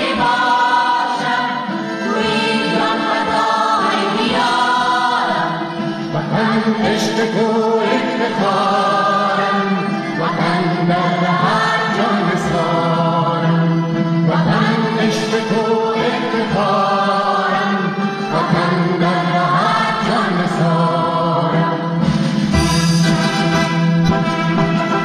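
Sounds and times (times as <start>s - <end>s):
voices singing: 0.0s - 22.1s.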